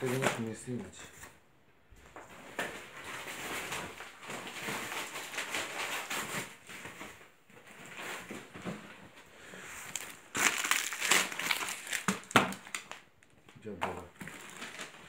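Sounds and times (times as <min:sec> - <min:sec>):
packaging rustling and crinkling: 0:00.0 - 0:01.4, 0:02.0 - 0:15.0.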